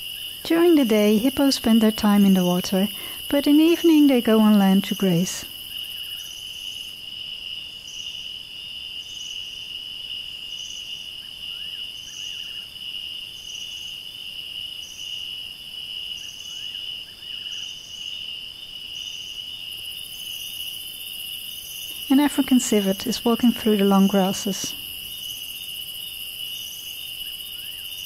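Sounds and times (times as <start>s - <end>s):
crickets trilling: 0.0s - 28.0s
insect chirp: 0.0s - 28.0s.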